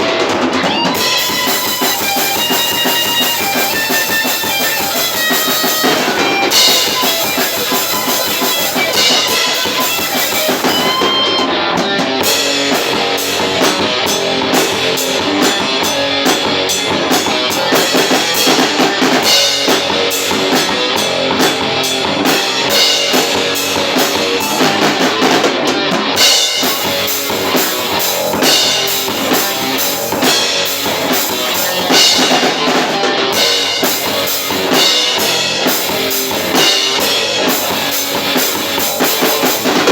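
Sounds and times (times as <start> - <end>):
metal band playing: 0.0 - 39.9.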